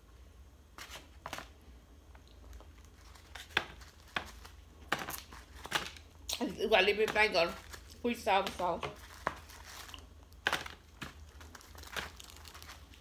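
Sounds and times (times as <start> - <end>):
styrofoam containers creaking: 2.5 - 13.0.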